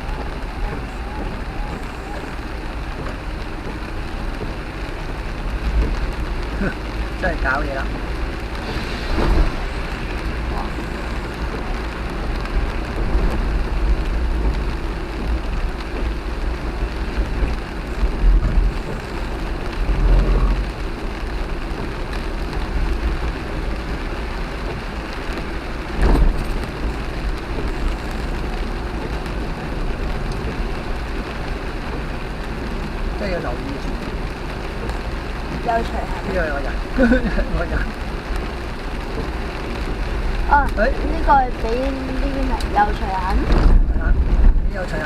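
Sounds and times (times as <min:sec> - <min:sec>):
rain hiss: 0:00.0 - 0:45.0
road noise rumble: 0:00.0 - 0:45.0.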